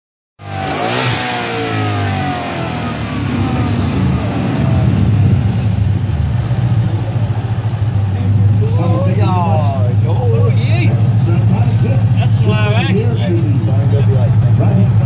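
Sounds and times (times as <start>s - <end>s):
car engine revving and idling: 0.4s - 15.0s.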